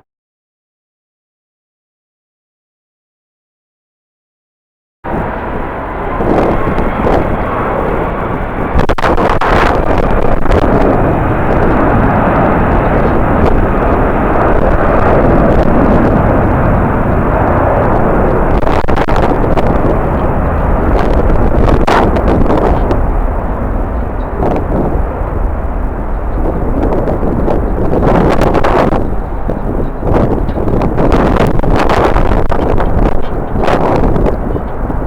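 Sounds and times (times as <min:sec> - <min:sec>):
wind buffeting microphone: 0:05.0 - 0:35.0.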